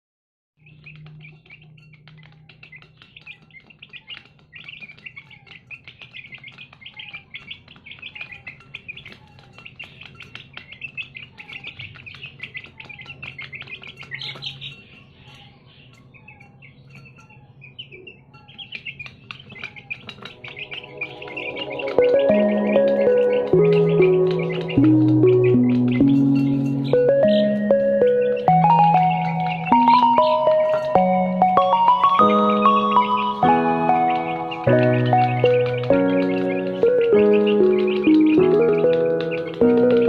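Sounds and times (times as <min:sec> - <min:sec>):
small birds chirping: 0:00.6 - 0:40.0.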